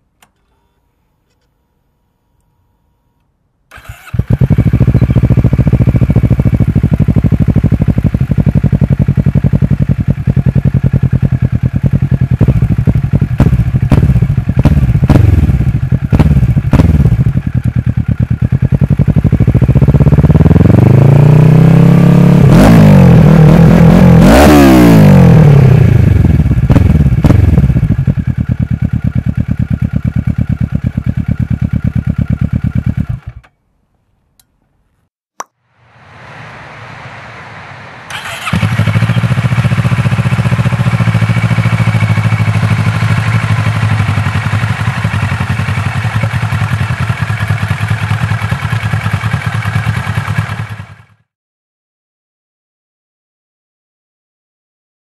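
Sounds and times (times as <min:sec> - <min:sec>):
motorcycle engine revving: 0:03.7 - 0:33.4, 0:36.0 - 0:51.2.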